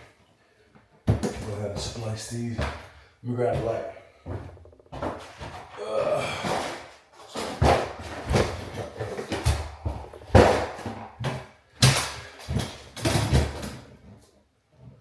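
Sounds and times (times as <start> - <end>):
objects knocking and clattering: 1.0 - 13.9.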